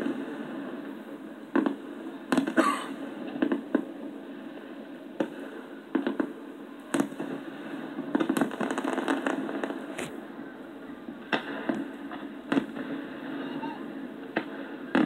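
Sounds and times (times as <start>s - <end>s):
fireworks crackling pops: 0.0s - 10.3s, 11.0s - 15.0s
distant fireworks bangs: 0.0s - 15.0s.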